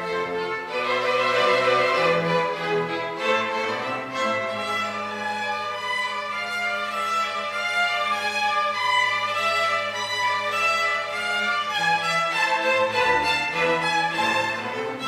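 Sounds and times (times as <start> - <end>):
violin playing long notes: 0.0 - 15.0.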